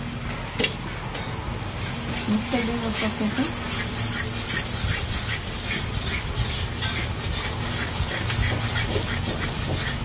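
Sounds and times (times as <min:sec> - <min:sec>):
steady low hum: 0:00.0 - 0:10.0
oil and spices sizzling: 0:01.6 - 0:10.0
metal spatula scraping a pan: 0:01.8 - 0:10.0.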